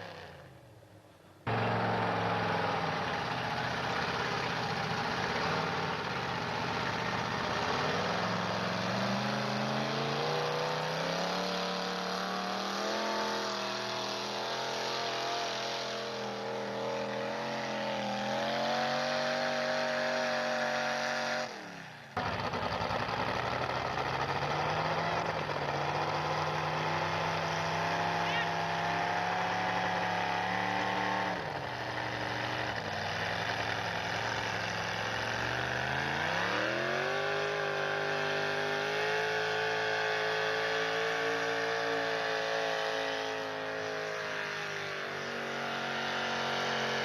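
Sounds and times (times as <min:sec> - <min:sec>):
truck engine revving under load: 0:01.5 - 0:47.0.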